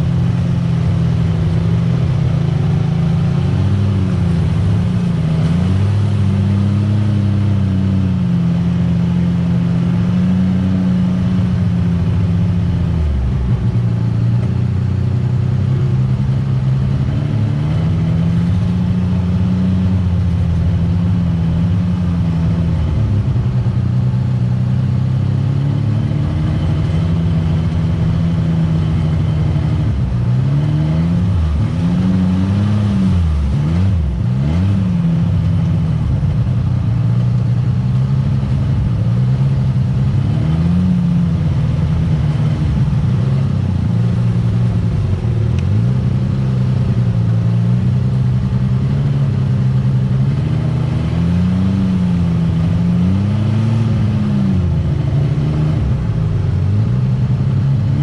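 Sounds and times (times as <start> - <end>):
utility vehicle engine revving: 0.0 - 58.0.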